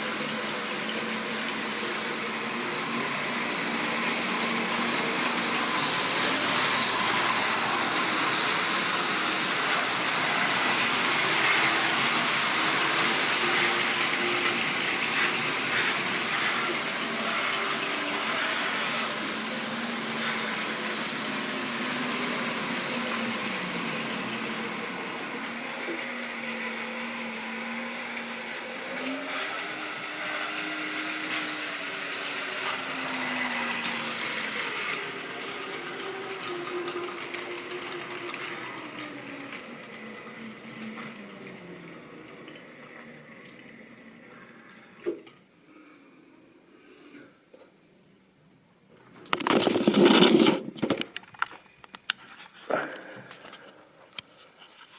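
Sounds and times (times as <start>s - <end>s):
model train wheels rumbling on rails: 0.0s - 44.6s.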